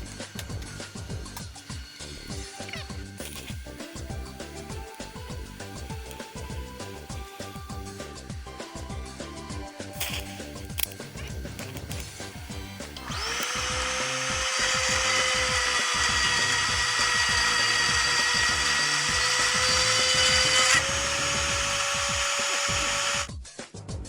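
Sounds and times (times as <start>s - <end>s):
power tool whining and grinding: 0.0s - 23.3s
background music: 0.0s - 24.0s.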